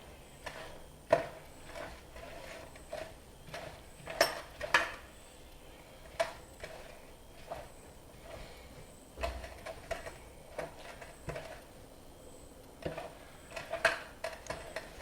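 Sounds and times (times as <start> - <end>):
hands mixing food in bowl: 0.0 - 11.8, 12.8 - 15.0.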